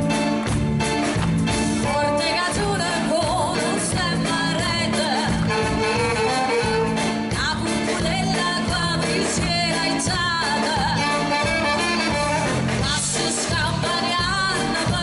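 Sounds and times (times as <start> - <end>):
live band playing with singing: 0.0 - 15.0.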